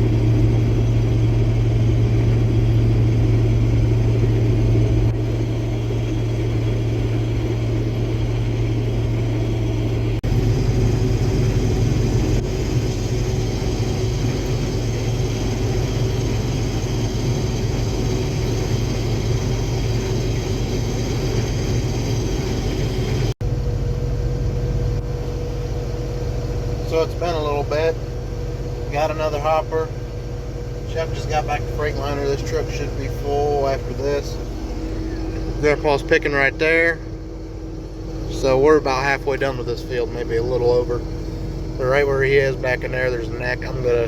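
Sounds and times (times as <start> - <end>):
combine harvester engine drone: 0.0 - 44.0.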